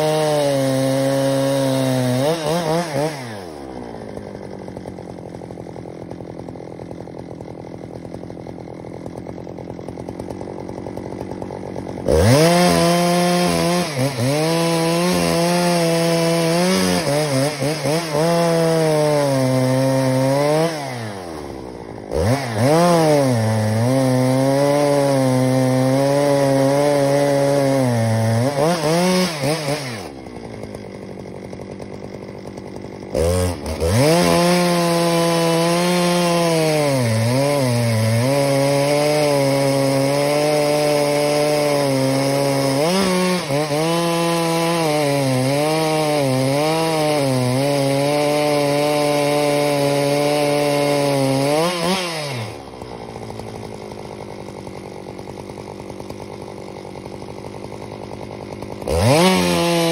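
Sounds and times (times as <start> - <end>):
chainsaw idling and cutting wood: 0.0 - 59.9.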